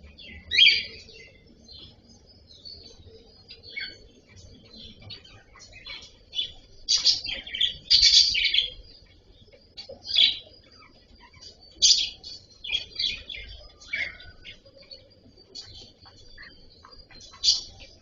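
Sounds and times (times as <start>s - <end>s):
cockatiels chirping: 0.0s - 2.0s, 2.6s - 18.0s
faint steady high tone: 0.0s - 18.0s.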